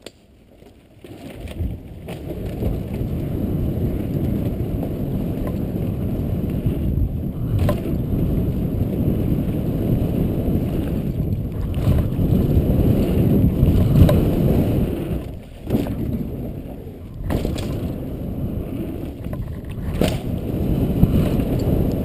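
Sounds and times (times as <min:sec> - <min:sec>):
bike tyres rumbling over dirt: 0:00.0 - 0:22.0
wind buffeting microphone: 0:01.5 - 0:22.0.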